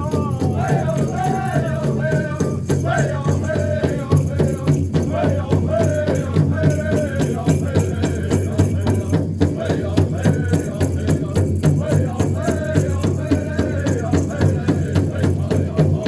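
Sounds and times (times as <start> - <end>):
group singing wavering melody: 0.0 - 16.0
steady drumbeat: 0.0 - 16.0.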